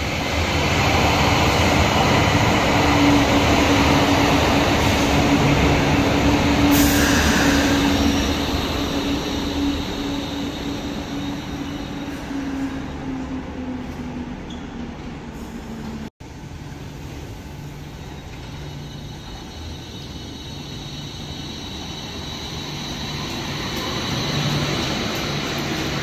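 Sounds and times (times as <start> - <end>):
light rail wheels rumbling: 0.0 - 26.0.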